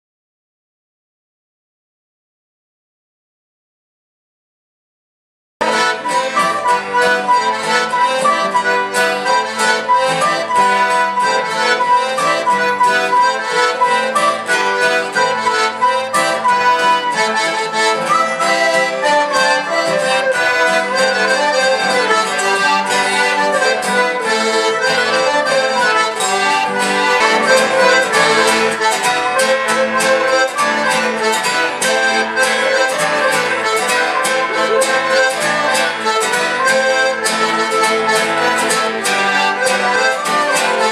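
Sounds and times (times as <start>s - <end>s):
acoustic guitar: 5.6s - 40.9s
fiddle: 5.6s - 40.9s
folk dance tune on accordion: 5.6s - 40.9s.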